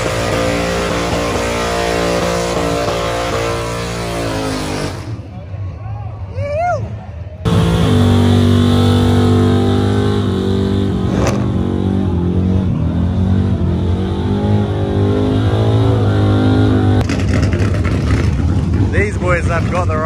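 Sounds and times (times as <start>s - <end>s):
loud car engine running: 0.0s - 5.4s, 7.4s - 20.0s.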